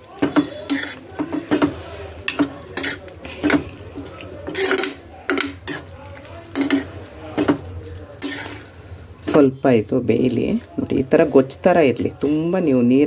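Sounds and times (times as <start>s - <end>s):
metal ladle scraping a pot: 0.0s - 11.3s.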